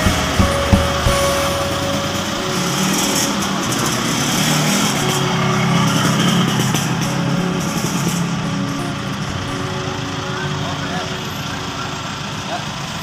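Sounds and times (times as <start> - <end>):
traffic noise: 0.0 - 13.0
vehicle engine running: 0.0 - 13.0.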